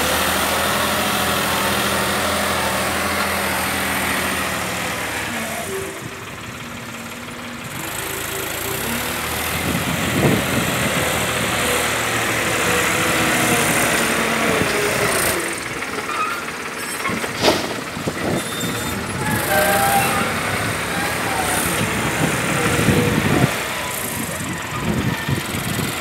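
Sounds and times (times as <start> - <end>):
tractor engine revving: 0.0 - 26.0.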